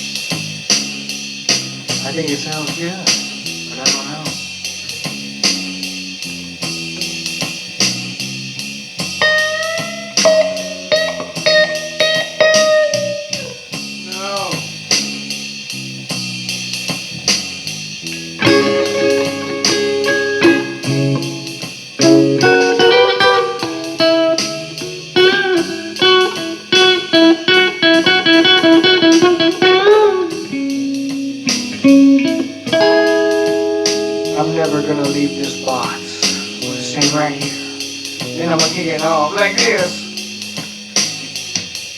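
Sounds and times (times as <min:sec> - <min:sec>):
blues guitar lead lines: 0:00.0 - 0:41.9
steady ticking beat: 0:00.0 - 0:41.9.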